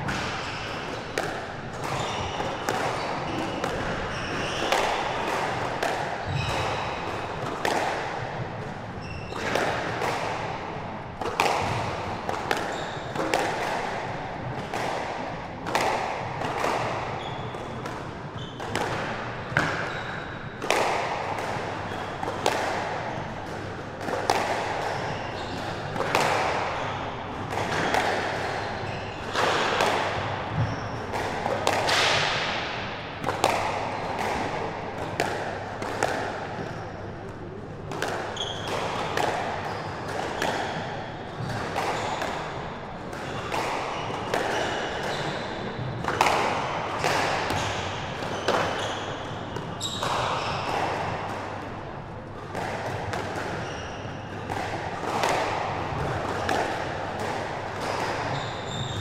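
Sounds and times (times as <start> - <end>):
squash racket strikes: 0.0 - 59.0.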